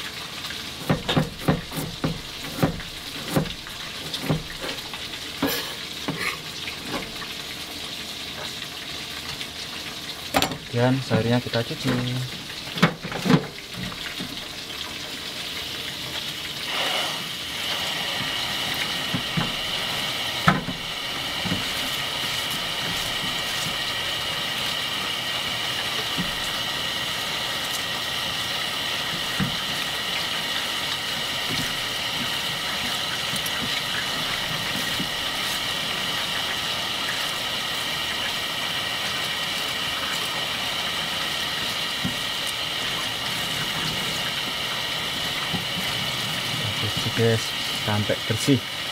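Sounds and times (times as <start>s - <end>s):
tap water running into colander: 0.0s - 48.9s.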